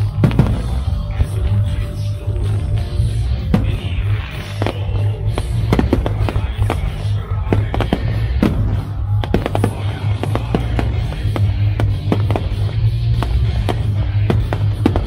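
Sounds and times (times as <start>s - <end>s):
fireworks bangs and crackles: 0.0s - 15.0s
show music with heavy bass: 0.0s - 15.0s.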